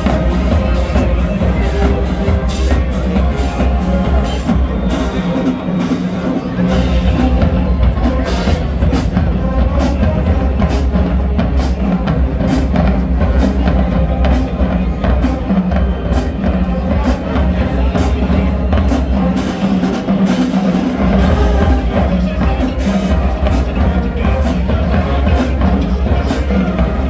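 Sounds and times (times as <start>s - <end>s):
marching band playing: 0.0s - 27.0s.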